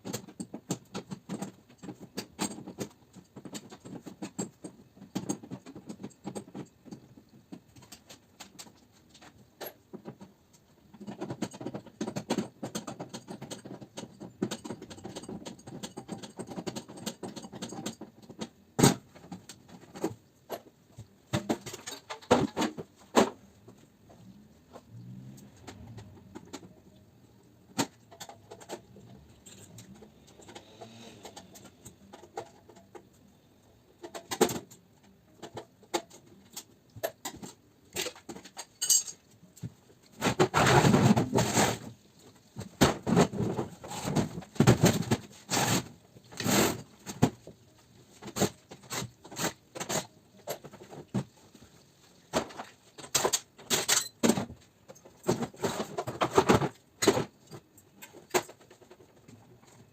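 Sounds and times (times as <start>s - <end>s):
metal parts clanking and rattling: 0.0s - 24.1s, 24.7s - 51.3s, 52.2s - 59.9s.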